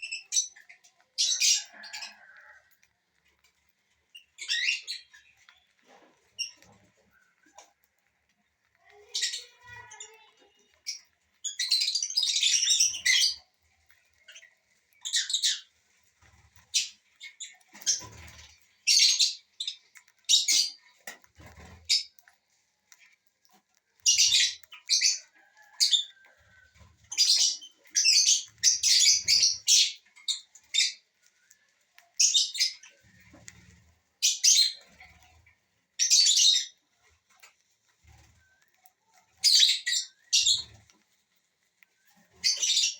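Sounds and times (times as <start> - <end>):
small parrots chirping and screeching: 0.0 - 42.9.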